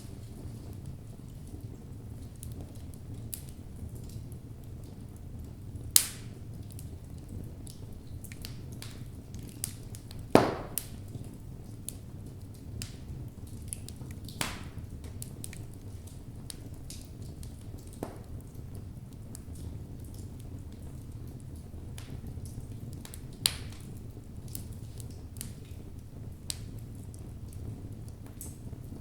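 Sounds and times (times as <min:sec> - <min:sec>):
fire burning low: 0:00.0 - 0:29.0
loud pops of burning logs: 0:00.0 - 0:29.0
small crackles: 0:00.0 - 0:29.0.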